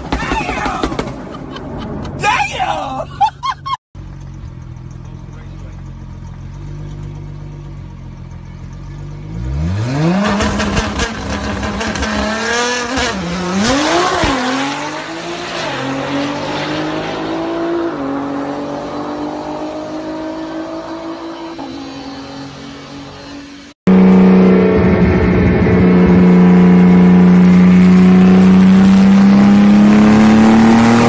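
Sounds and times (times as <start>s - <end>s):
car engine revving and accelerating: 4.7s - 31.0s.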